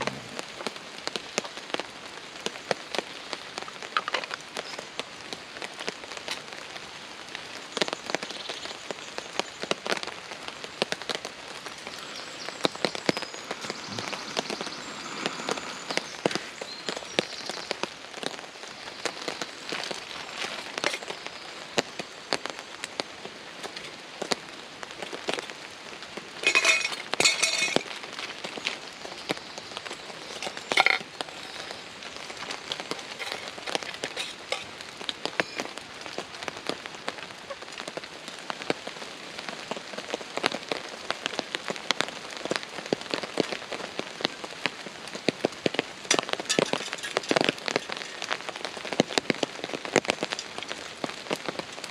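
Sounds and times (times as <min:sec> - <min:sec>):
heavy rain drumming on tarp: 0:00.0 - 0:51.9.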